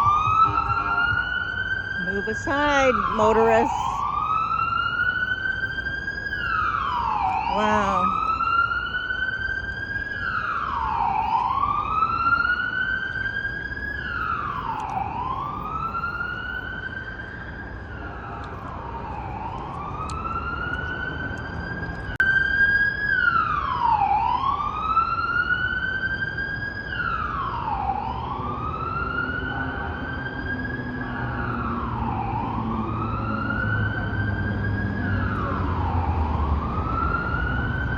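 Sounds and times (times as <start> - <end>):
police siren wailing: 0.0 - 37.9
road traffic rumble: 0.0 - 37.9.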